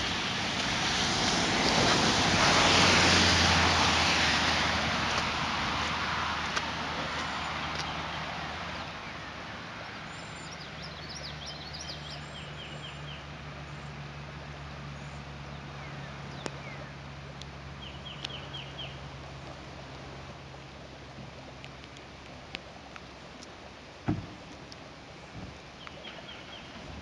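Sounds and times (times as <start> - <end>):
rain falling on water: 0.0 - 27.0.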